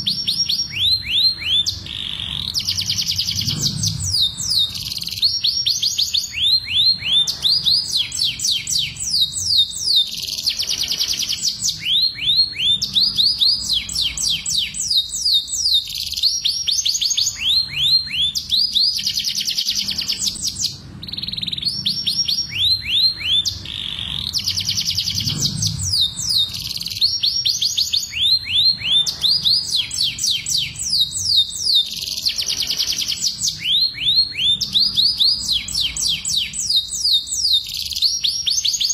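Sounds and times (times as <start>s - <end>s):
canaries singing rapid trills: 0.0s - 38.9s.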